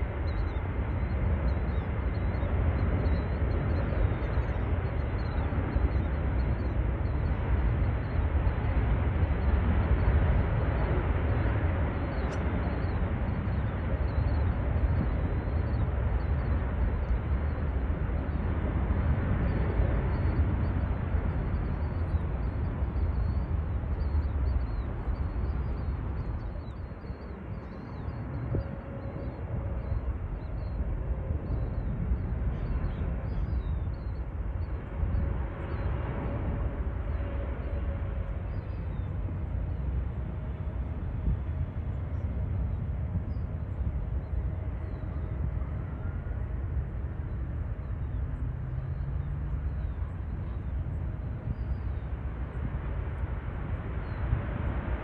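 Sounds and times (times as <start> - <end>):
distant jet engines rumbling: 0.0 - 55.0
faint steady whine: 0.0 - 55.0.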